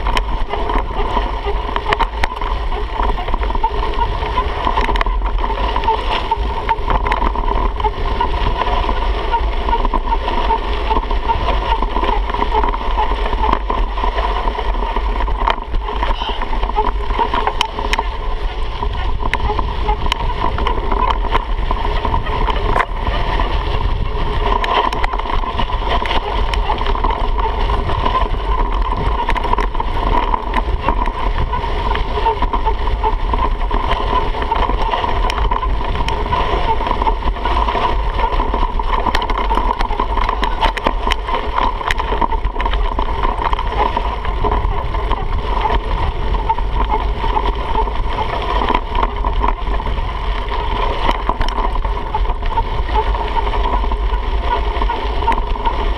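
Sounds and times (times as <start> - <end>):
gravel and bike rattles: 0.0 - 55.9
tyres rolling over dirt: 0.0 - 55.9
wind rush on microphone: 0.0 - 55.9.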